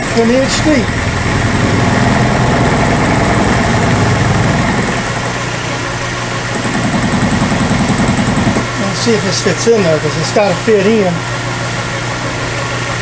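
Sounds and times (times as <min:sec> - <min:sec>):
milling machine cutting metal: 0:00.0 - 0:12.9
spindle hum: 0:00.0 - 0:13.0.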